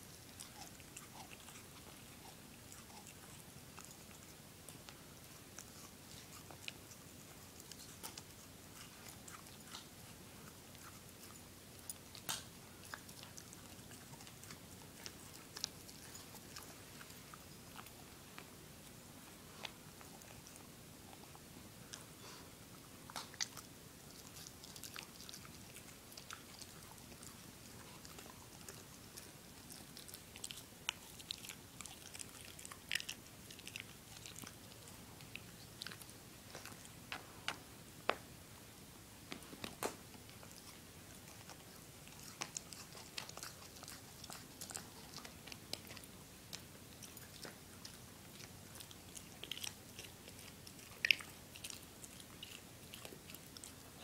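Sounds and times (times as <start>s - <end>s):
dog chewing rawhide: 0.0s - 22.4s, 23.1s - 37.6s, 39.3s - 54.0s.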